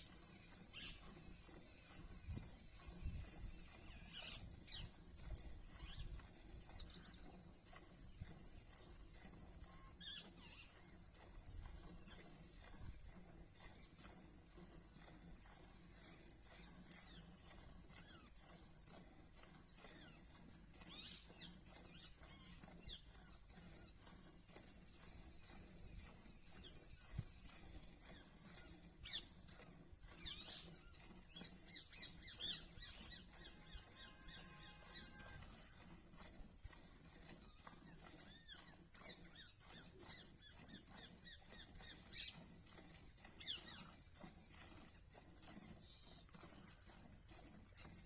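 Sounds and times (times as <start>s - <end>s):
small birds chirping: 0.0s - 35.8s, 36.6s - 48.0s
milk squirting: 0.0s - 48.0s.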